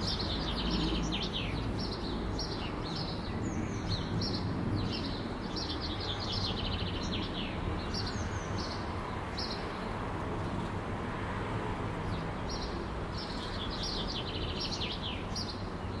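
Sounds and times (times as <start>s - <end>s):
city background rumble: 0.0s - 16.0s
songbirds chirping: 0.0s - 16.0s.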